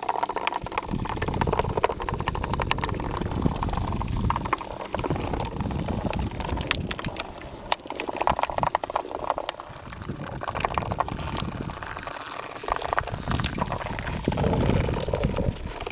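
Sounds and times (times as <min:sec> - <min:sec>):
dense irregular clicking: 0:00.0 - 0:15.9
toy bugs buzzing and rattling: 0:00.0 - 0:15.9.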